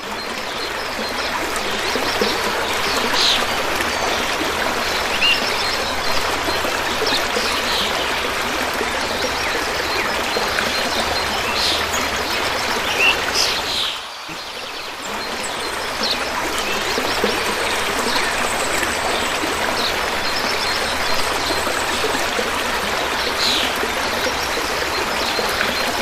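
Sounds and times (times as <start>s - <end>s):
river flowing: 0.0s - 26.0s
birds chirping: 0.4s - 26.0s.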